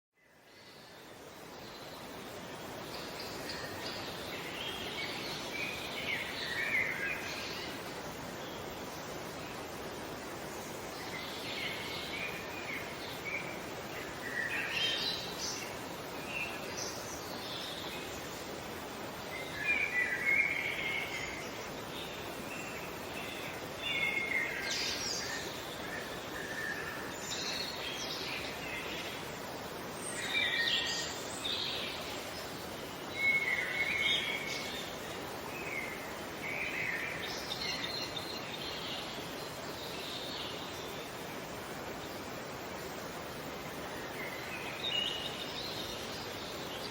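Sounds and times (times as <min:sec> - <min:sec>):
outdoor background hiss: 0:00.2 - 0:46.9.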